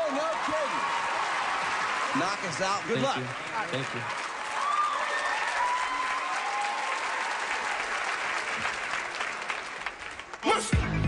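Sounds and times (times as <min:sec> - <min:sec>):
audience applauding and cheering: 0:00.0 - 0:11.0.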